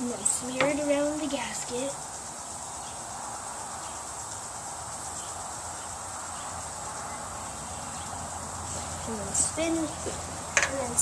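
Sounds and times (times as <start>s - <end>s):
high-pitched insect buzzing: 0.0s - 11.0s.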